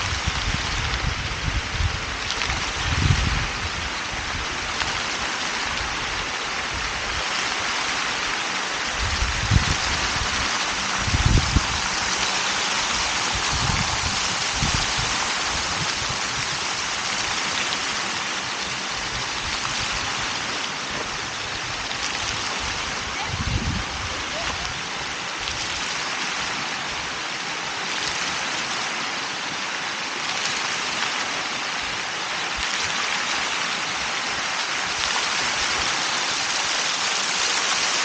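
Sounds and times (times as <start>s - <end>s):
fountain water splashing: 0.0s - 38.0s.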